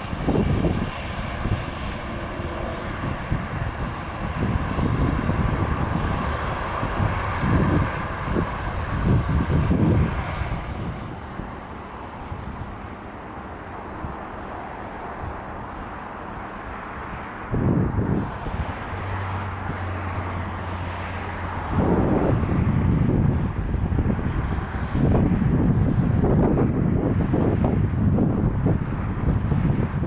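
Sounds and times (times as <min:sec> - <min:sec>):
airliner engines rushing: 0:00.0 - 0:30.0
low engine rumble: 0:00.0 - 0:30.0.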